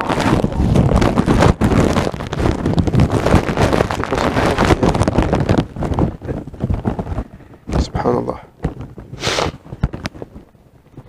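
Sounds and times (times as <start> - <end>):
gloves rustling and crackling: 0.0 - 11.0.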